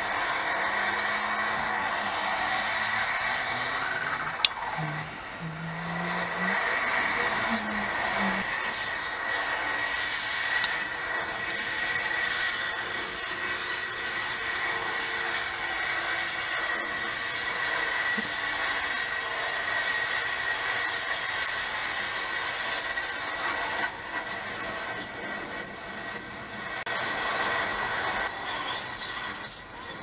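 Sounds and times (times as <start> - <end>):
high steady whine: 0.0 - 30.0.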